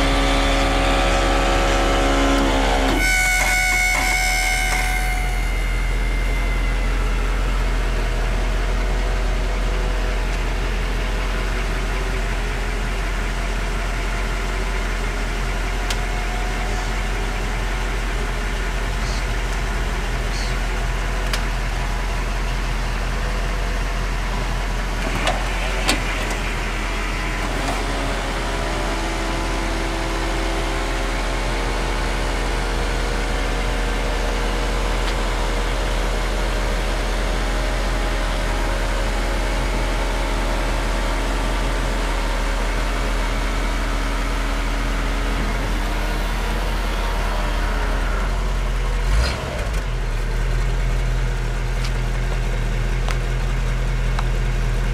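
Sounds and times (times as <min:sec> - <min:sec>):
convertible top motor whine: 0:00.0 - 0:54.9.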